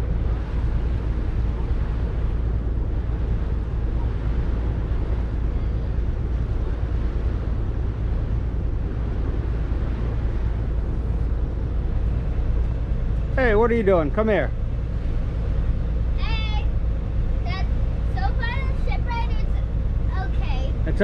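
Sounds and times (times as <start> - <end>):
boat engine droning: 0.0 - 21.0
water rushing past: 0.0 - 21.0
wind buffeting microphone: 0.0 - 21.0.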